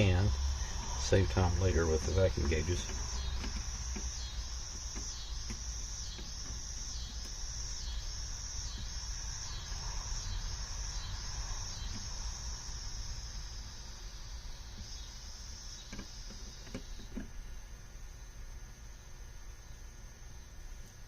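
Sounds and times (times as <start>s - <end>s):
crickets chirping: 0.0s - 21.0s
low hum: 0.0s - 21.0s.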